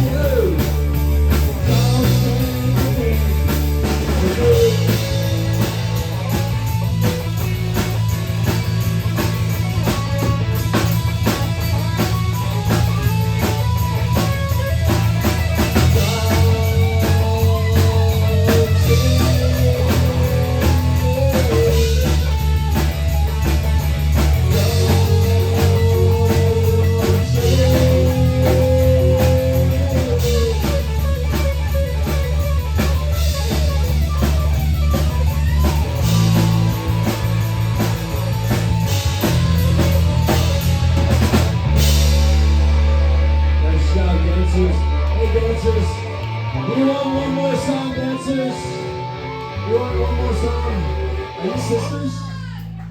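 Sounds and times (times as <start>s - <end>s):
rock song with electric guitar: 0.0s - 52.9s.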